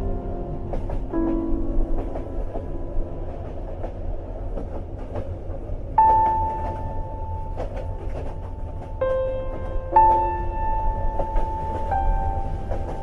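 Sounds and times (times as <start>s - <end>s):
rail clicks: 0.0s - 13.0s
train rumbling: 0.0s - 13.0s.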